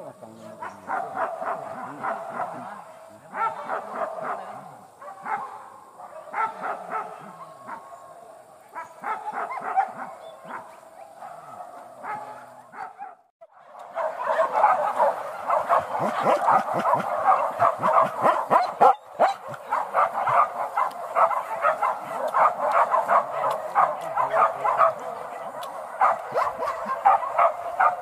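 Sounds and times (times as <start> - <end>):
dogs barking and yelping: 0.5 - 28.0.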